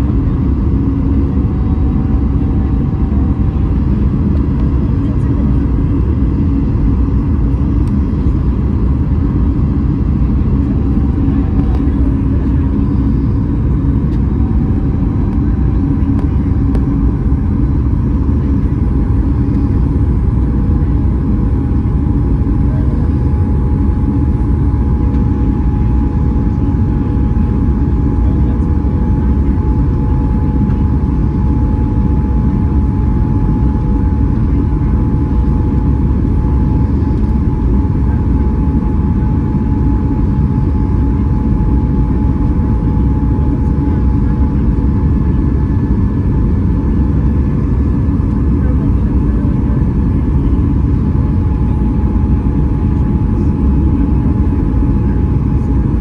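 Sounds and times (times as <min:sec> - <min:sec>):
airflow and engine rumble: 0:00.0 - 0:56.0.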